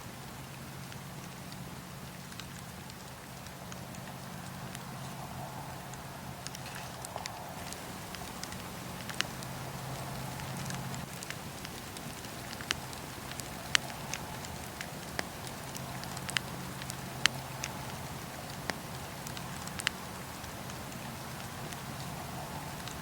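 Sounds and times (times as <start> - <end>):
fire crackles and pops: 0.0 - 23.0
wood fire rumble and hiss: 0.0 - 23.0.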